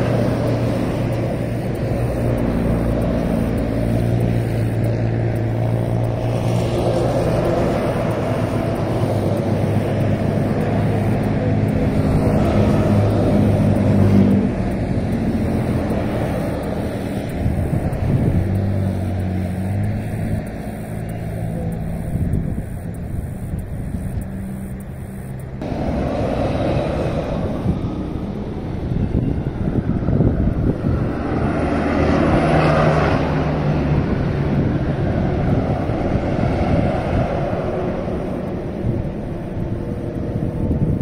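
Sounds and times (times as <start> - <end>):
highway traffic passing: 0.0 - 41.0.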